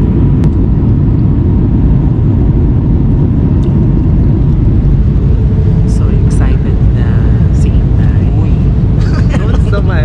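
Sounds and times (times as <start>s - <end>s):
aircraft cabin rumble: 0.0s - 10.0s
faint steady hum: 0.0s - 10.0s.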